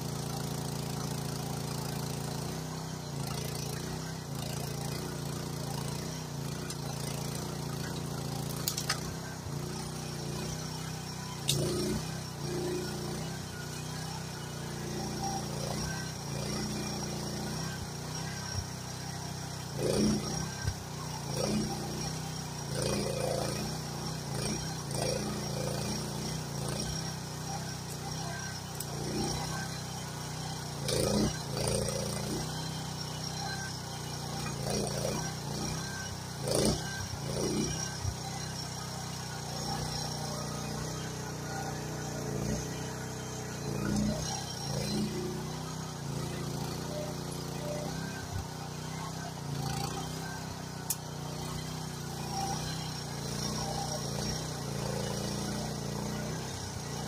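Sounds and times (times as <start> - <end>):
mini excavator engine running: 0.0 - 57.0.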